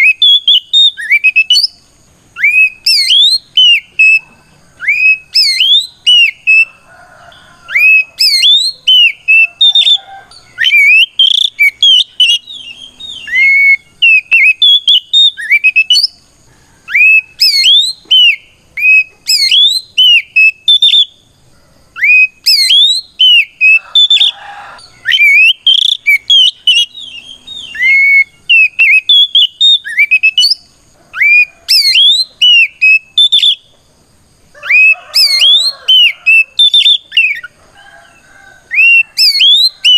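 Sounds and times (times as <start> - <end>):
bird singing whistled song: 0.0 - 6.8, 7.6 - 21.3, 22.0 - 33.8, 34.6 - 37.6, 38.7 - 39.9.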